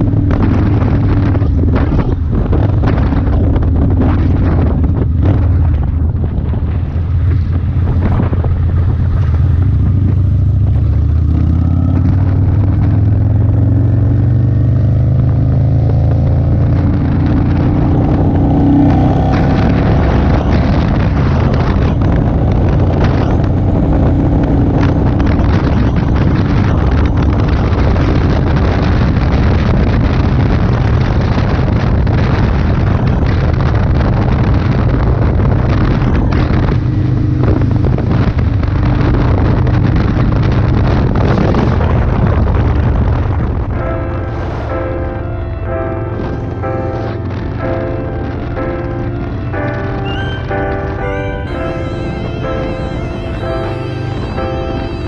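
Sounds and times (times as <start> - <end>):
motorcycle engine accelerating: 0.0 - 55.0
wind buffeting microphone: 0.0 - 55.0.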